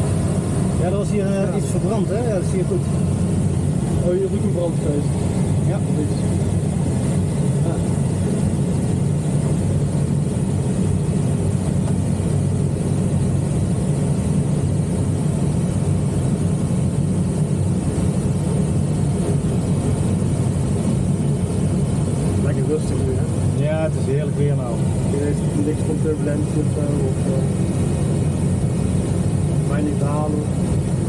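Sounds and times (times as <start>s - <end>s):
airflow rushing around cockpit: 0.0s - 31.0s.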